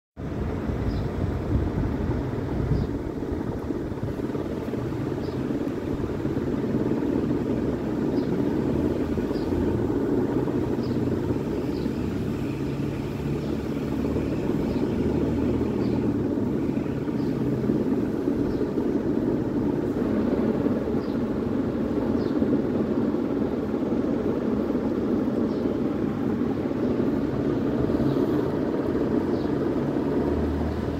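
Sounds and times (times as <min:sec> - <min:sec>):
low rumbling background noise: 0:00.2 - 0:30.9.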